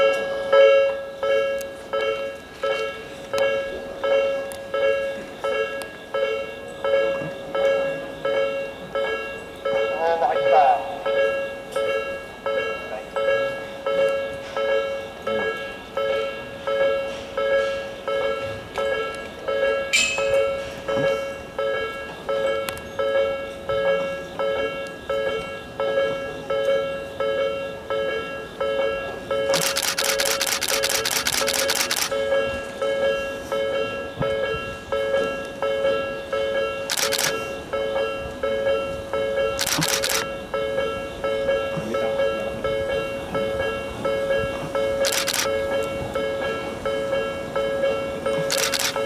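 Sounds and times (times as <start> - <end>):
level crossing warning bell: 0.0 - 39.6, 40.2 - 49.0.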